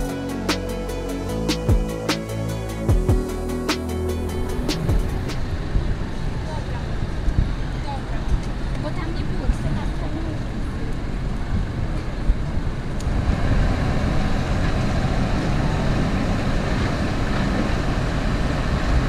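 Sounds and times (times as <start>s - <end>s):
rumbling street noise: 0.0s - 19.0s.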